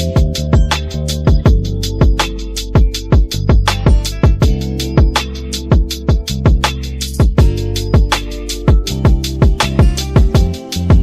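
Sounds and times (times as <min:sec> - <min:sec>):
held bass and synth notes: 0:00.0 - 0:11.0
hi-hat ticks: 0:00.0 - 0:11.0
kick drum thumping: 0:00.2 - 0:02.2, 0:02.8 - 0:08.1, 0:08.7 - 0:11.0.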